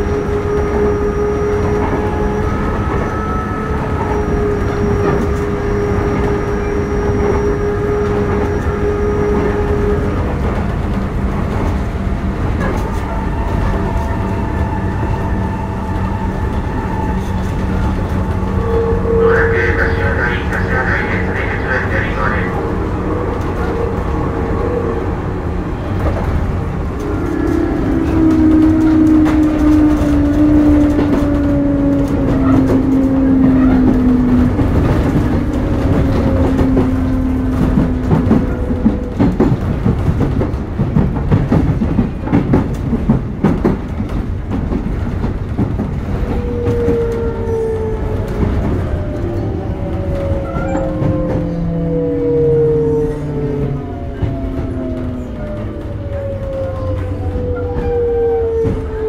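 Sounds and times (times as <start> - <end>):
rail joint clicks: 0.0 - 59.0
wheel and rail rumble: 0.0 - 59.0.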